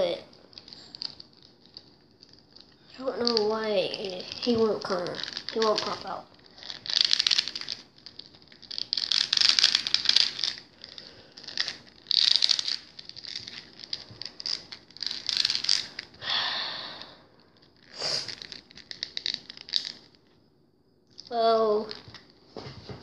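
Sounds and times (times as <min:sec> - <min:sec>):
plastic figure parts rustling: 0:00.3 - 0:16.2, 0:17.4 - 0:20.4, 0:21.1 - 0:23.0.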